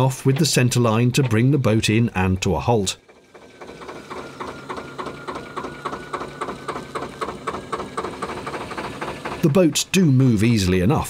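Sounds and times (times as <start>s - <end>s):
diesel engine clattering: 0.0s - 11.0s.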